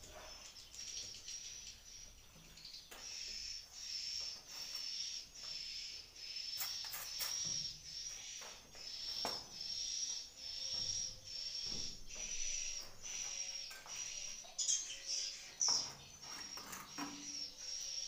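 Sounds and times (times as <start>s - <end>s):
swiftlet twittering chirps: 0.3s - 18.0s.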